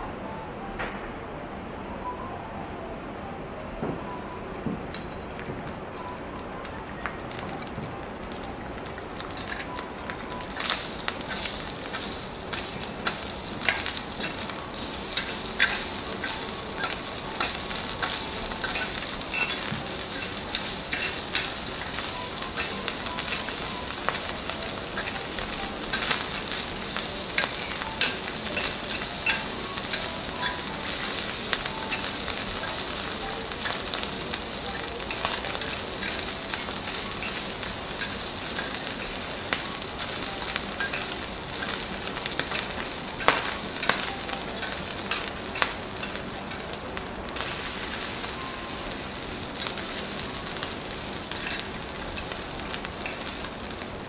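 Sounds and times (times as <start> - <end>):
beef sizzling on griddle: 7.3 - 54.0.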